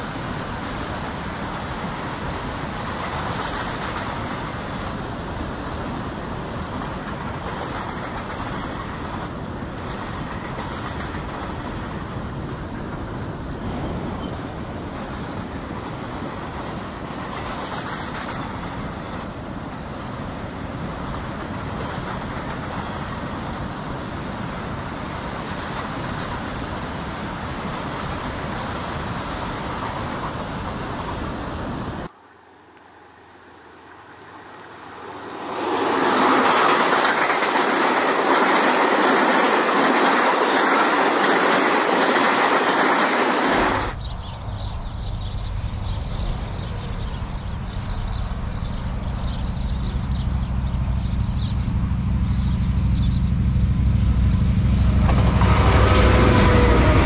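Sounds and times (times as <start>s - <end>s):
train wagons rolling on track: 0.0s - 32.1s, 33.9s - 44.0s, 46.7s - 57.0s.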